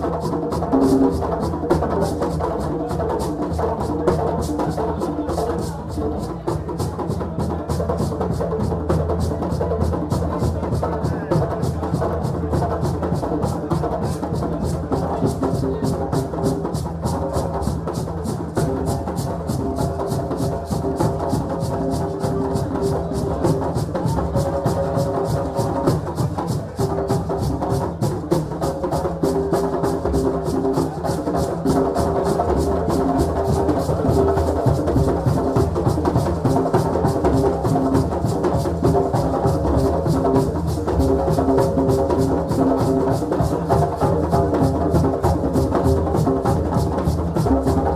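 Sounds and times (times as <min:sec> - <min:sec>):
fast drumming: 0:00.0 - 0:47.9.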